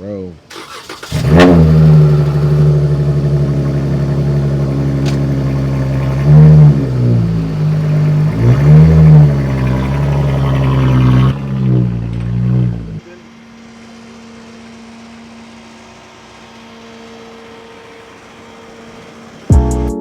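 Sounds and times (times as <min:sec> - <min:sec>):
car engine idling and revving: 0:00.4 - 0:19.9.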